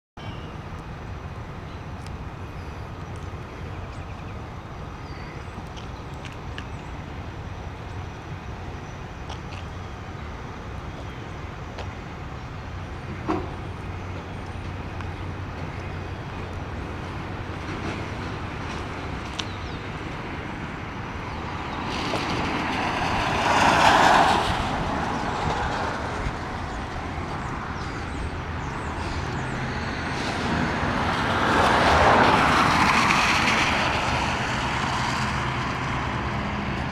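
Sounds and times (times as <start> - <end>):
passing traffic: 0.2 - 36.9.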